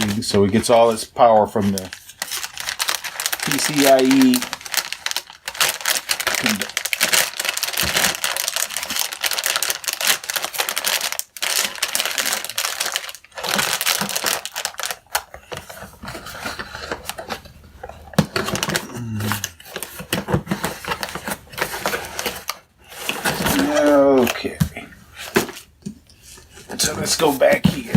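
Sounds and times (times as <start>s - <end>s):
packaging crinkling and rustling: 0.0s - 27.9s.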